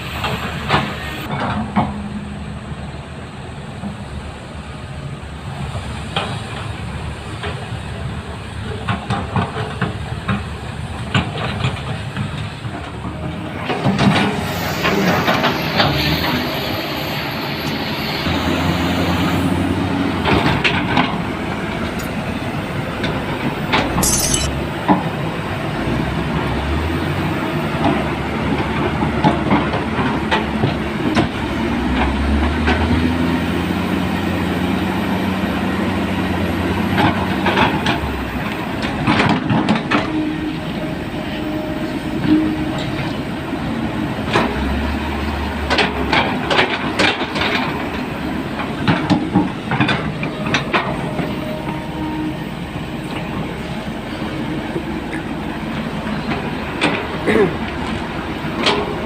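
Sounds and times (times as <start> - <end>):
steel tracks clanking: 0.0 - 2.4, 5.7 - 59.0
heavy equipment diesel engines: 0.0 - 59.0.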